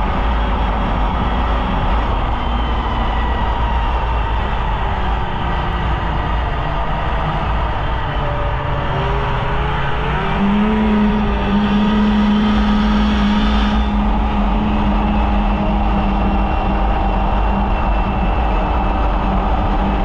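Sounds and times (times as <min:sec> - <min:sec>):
snowmobile engine under throttle: 0:00.0 - 0:20.0.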